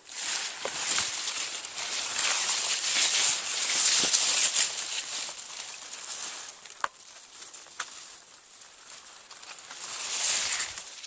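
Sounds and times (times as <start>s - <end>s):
clicks in foliage: 0.0s - 11.0s
rustling in foliage: 0.0s - 11.0s.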